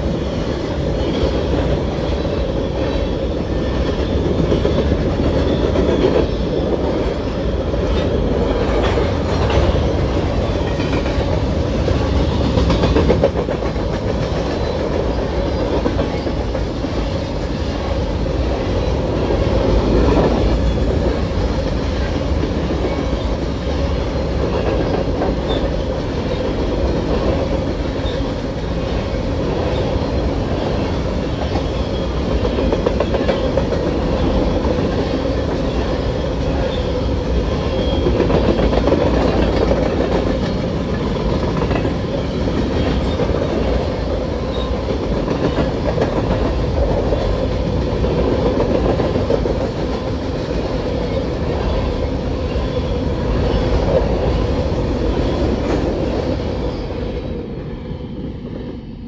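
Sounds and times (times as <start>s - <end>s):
train wheels rolling on rails: 0.0s - 59.0s.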